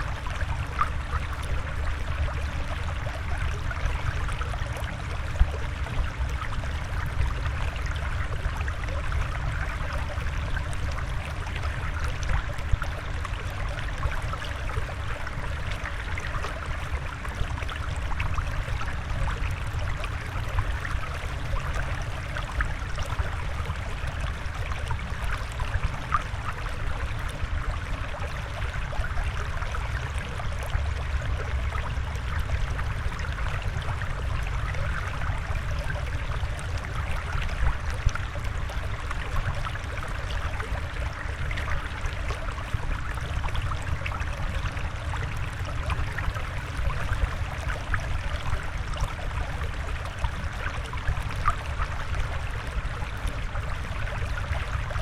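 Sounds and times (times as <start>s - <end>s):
water flowing and trickling: 0.0s - 55.0s.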